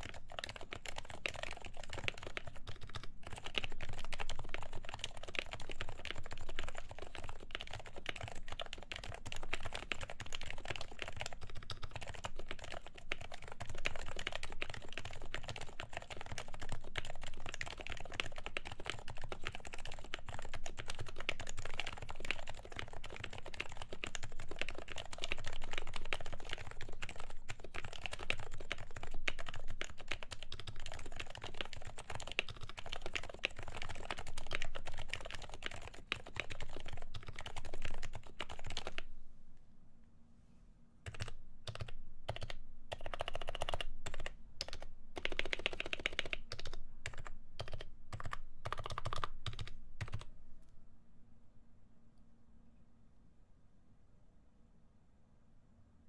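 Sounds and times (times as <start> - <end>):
fast typing on a keyboard: 0.0 - 39.1, 41.1 - 50.3.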